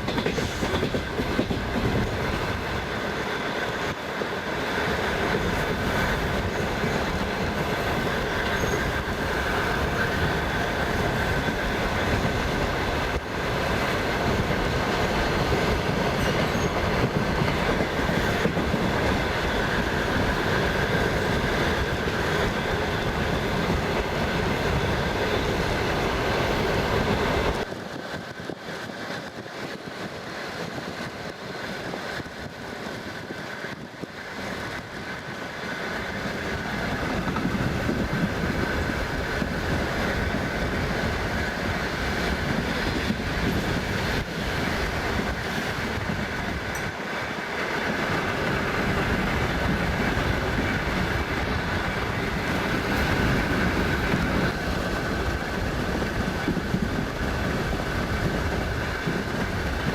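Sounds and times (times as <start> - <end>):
passenger train on rails: 0.0 - 59.9.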